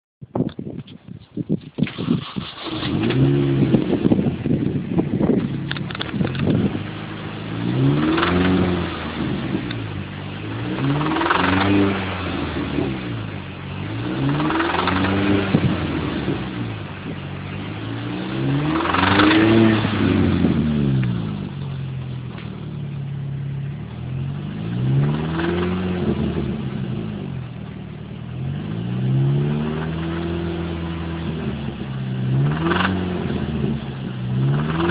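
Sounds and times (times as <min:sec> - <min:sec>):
car engine revving: 0:01.8 - 0:34.9.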